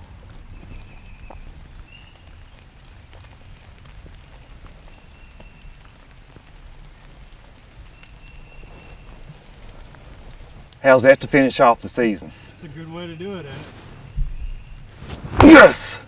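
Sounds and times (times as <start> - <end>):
raindrop ticks: 0.0 - 15.0
steady rain falling: 0.0 - 16.0.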